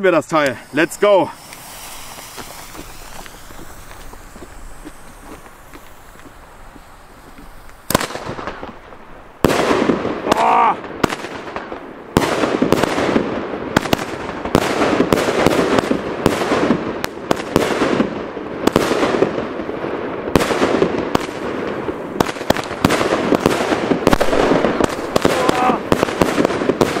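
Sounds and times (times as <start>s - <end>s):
loud firework shell bursts: 0.0s - 19.4s, 20.4s - 27.0s
firework launch reports: 0.0s - 19.8s, 20.4s - 27.0s
burning firework effects: 0.0s - 27.0s.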